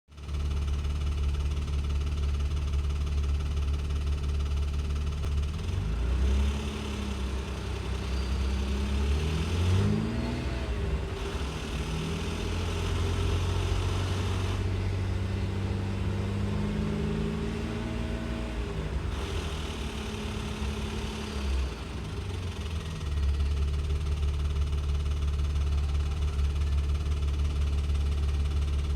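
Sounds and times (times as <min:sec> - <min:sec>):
engine knocking: 0:00.1 - 0:28.9
car engine idling and revving: 0:00.2 - 0:28.9.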